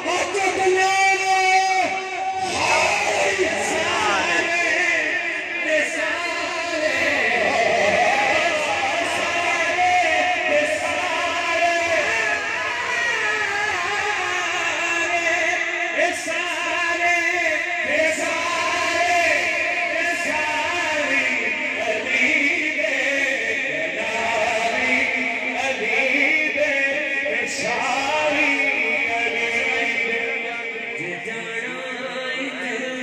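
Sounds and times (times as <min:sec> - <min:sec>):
men singing into microphones: 0:00.0 - 0:33.0.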